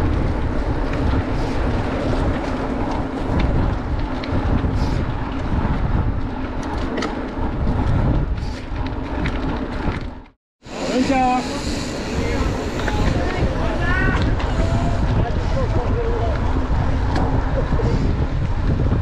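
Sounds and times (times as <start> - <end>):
bike clicks and rattles: 0.0 - 10.4, 12.5 - 19.0
bike tyres rolling on tarmac: 0.0 - 19.0
wind on microphone: 0.0 - 19.0.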